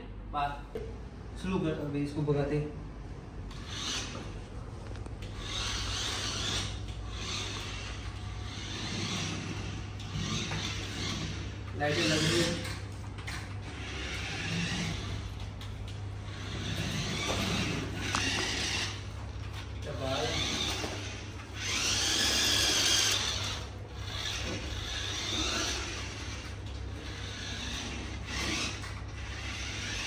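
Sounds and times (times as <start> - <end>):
toy car motor whirring: 3.5 - 4.4, 5.2 - 30.0.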